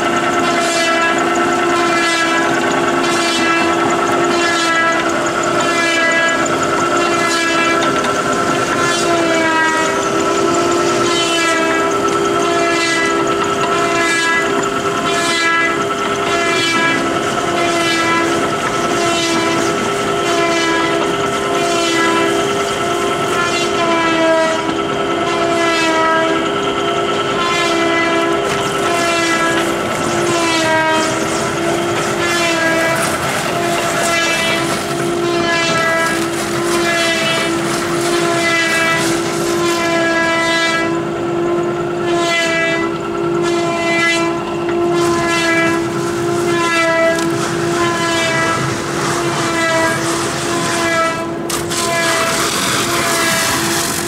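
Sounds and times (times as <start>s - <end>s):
machine rollers whining: 0.0s - 54.0s.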